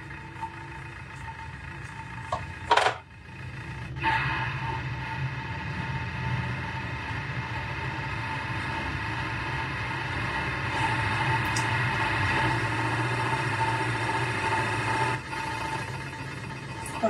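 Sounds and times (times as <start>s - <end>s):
mechanical hum with whine: 0.0s - 17.0s.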